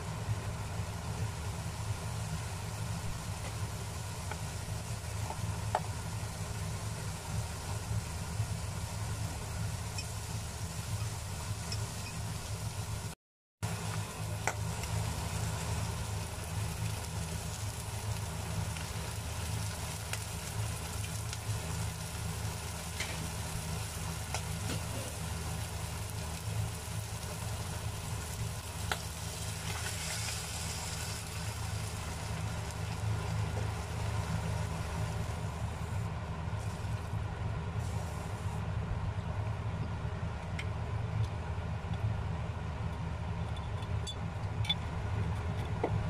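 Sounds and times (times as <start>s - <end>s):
onion and bacon sizzling: 0.0s - 38.6s
steady low hum: 0.0s - 46.0s.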